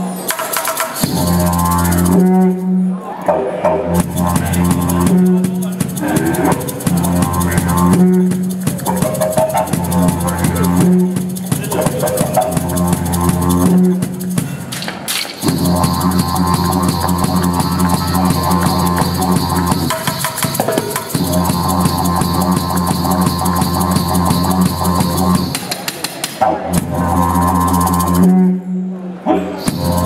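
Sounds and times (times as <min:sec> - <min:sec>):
didgeridoo drone: 0:00.0 - 0:14.7, 0:15.4 - 0:30.0
fast hand percussion hits: 0:00.2 - 0:02.6, 0:03.9 - 0:28.4, 0:29.6 - 0:30.0.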